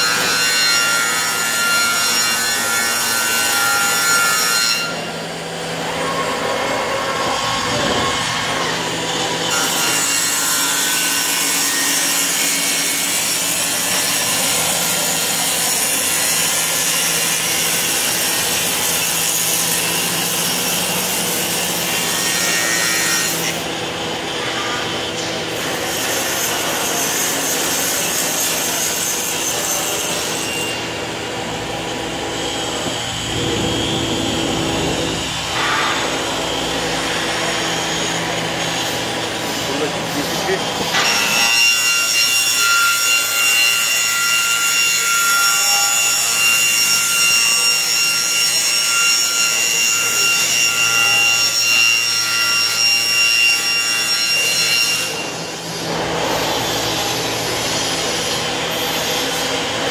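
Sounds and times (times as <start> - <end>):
circular saw cutting aluminium: 0.0 - 59.9.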